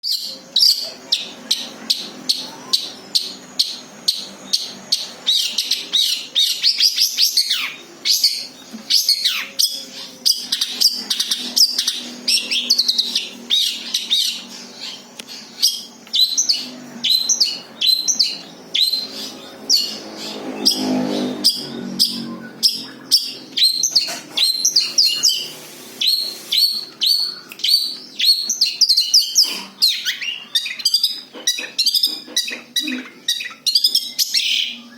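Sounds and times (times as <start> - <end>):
bird singing sharp high notes: 0.0 - 31.0
downward-sliding bird calls: 0.2 - 34.9.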